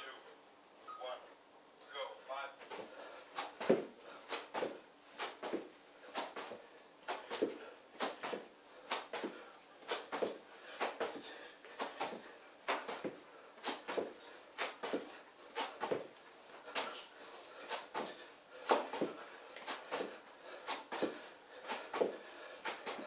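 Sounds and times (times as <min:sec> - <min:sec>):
feet thudding on foam mat: 0:02.7 - 0:23.0.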